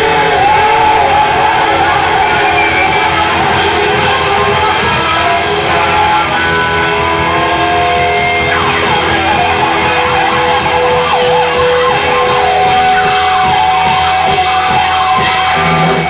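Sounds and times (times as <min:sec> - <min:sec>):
distorted electric guitar lead: 0:00.0 - 0:16.0
hard rock band playing: 0:00.0 - 0:16.0.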